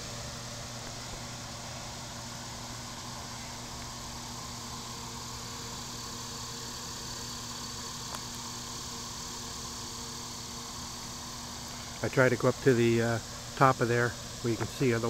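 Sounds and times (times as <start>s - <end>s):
generators humming: 0.0s - 15.0s.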